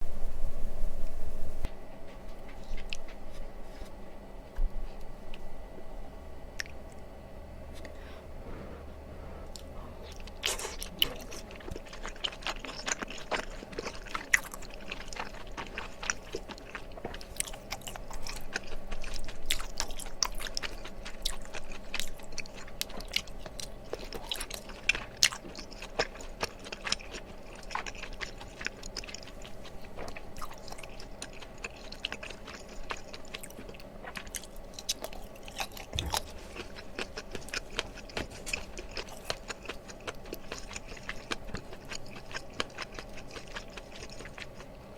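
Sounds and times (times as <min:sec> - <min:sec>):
chewing rice cakes: 0:02.1 - 0:03.9, 0:06.6 - 0:07.1, 0:09.5 - 0:44.9.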